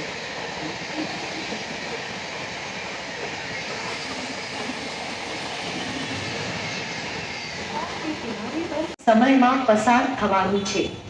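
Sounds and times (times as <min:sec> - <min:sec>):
train wheels rumbling on rails: 0:00.0 - 0:09.0.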